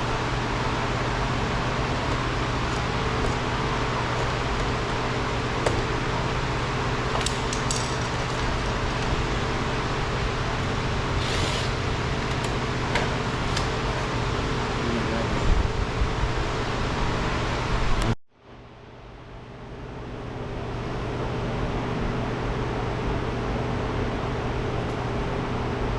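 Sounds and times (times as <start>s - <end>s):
fan-like machine hum: 0.0s - 25.9s.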